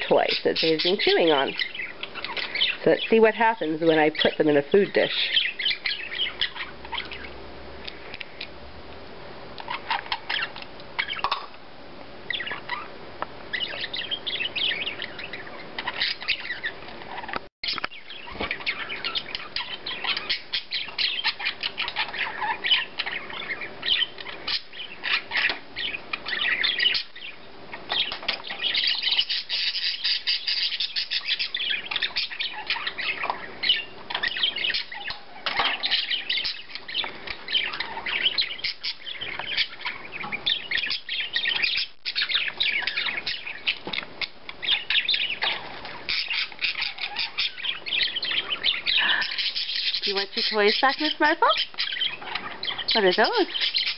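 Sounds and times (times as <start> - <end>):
budgerigars chirping and chattering: 0.0 - 8.5, 9.6 - 11.6, 12.3 - 53.9.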